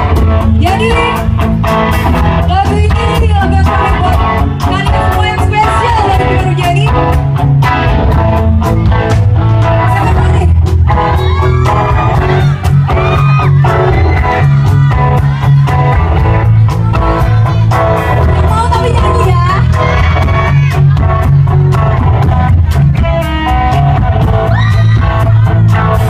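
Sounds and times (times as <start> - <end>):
bass guitar: 0.0 - 26.0
drums with steady beat: 0.0 - 26.0
electric guitars: 0.0 - 26.0.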